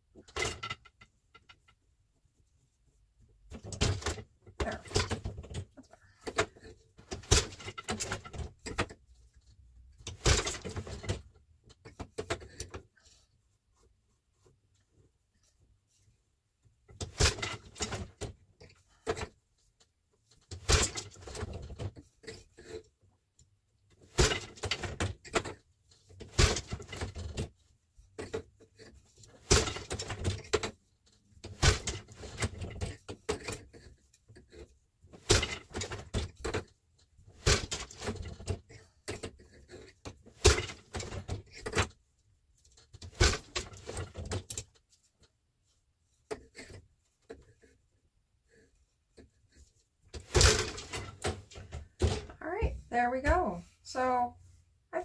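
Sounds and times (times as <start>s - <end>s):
loom wooden knocks and clatter: 0.0s - 13.3s, 16.6s - 53.7s.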